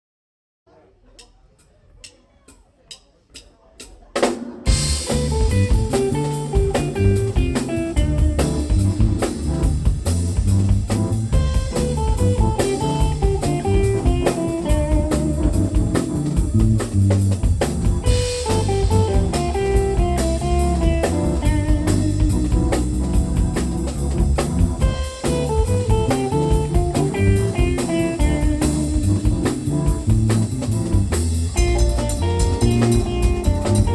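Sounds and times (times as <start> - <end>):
drum kit beat: 1.2 - 33.9
bass: 4.7 - 33.9
electric guitar lines: 4.7 - 33.9.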